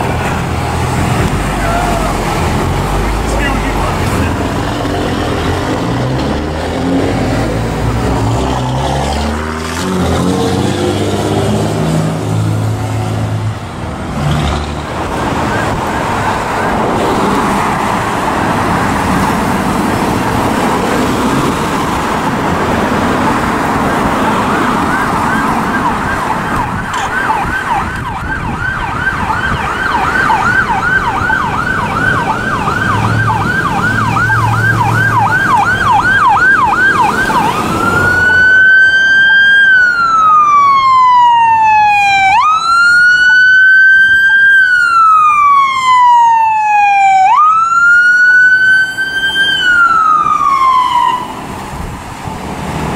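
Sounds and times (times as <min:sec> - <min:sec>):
emergency siren: 0:00.0 - 0:12.8, 0:14.8 - 0:51.7
passing traffic: 0:00.0 - 0:52.9.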